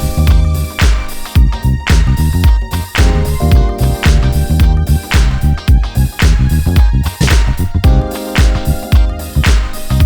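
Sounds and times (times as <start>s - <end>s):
music with strong beat and bass: 0.0s - 10.0s.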